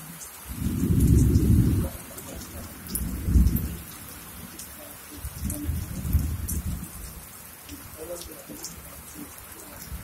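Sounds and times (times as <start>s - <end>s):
heavy rain falling: 0.0s - 10.0s
raindrops ticking: 0.0s - 10.0s.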